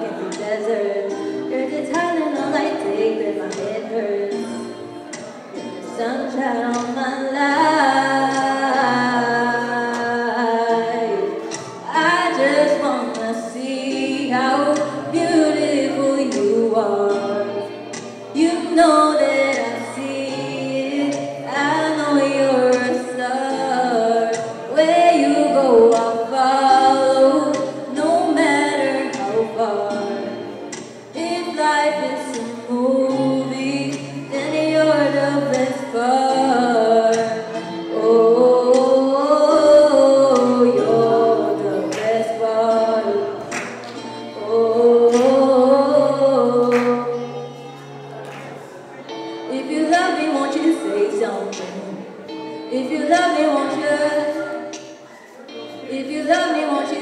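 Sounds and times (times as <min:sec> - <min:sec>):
woman singing ballad: 0:00.0 - 0:05.0, 0:05.6 - 0:48.0, 0:49.3 - 0:57.0
soft instrumental backing: 0:00.0 - 0:57.0.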